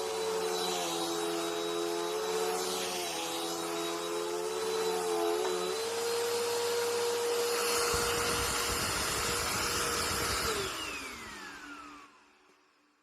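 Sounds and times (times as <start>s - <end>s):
vacuum motor winding down: 0.0s - 12.4s
vacuum cleaner motor whine: 0.0s - 13.0s.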